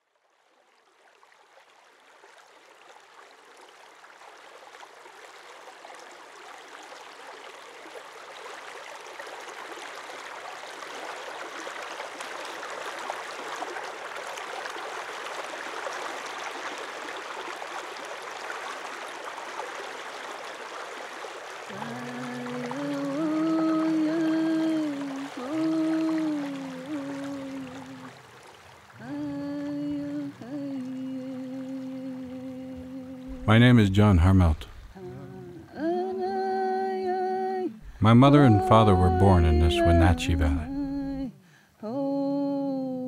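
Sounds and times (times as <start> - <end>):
stream water rushing: 0.9 - 41.3.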